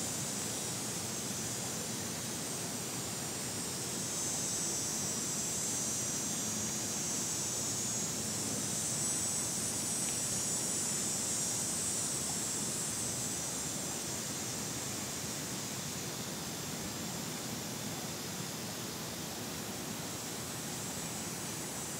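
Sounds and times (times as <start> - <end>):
cicada buzzing: 0.0 - 21.9
outdoor hiss: 0.0 - 21.9.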